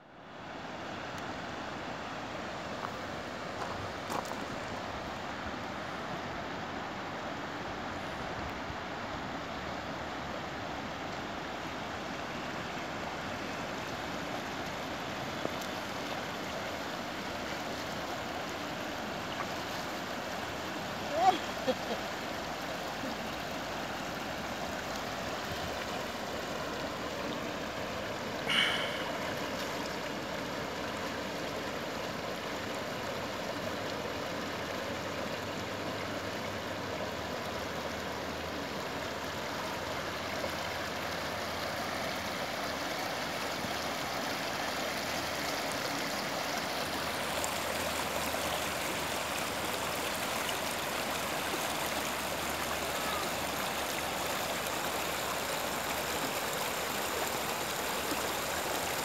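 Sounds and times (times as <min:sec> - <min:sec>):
water rushing over rocks: 0:00.3 - 0:59.0.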